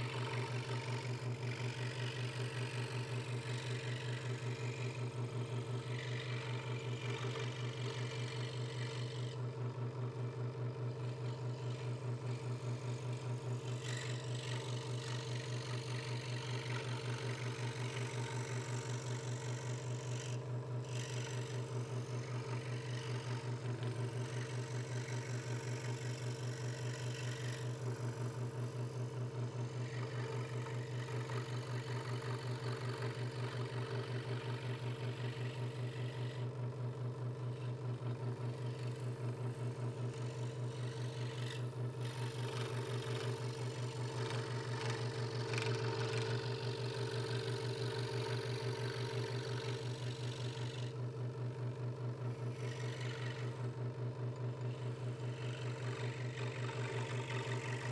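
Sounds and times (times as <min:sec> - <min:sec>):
scroll saw cutting thin wood: 0:00.0 - 0:57.9.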